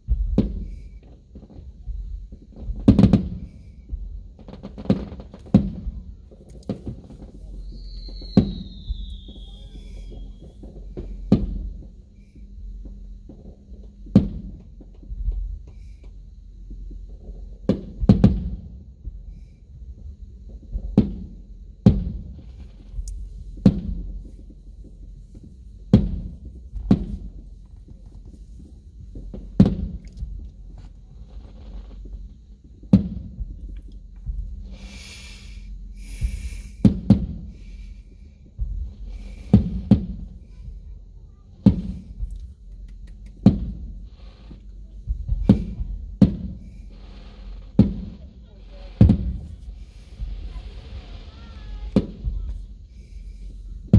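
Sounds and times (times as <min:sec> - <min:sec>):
hissing crackle: 0:00.0 - 0:53.9
muffled firework booms: 0:00.0 - 0:53.9
car air conditioning hum: 0:05.2 - 0:53.9.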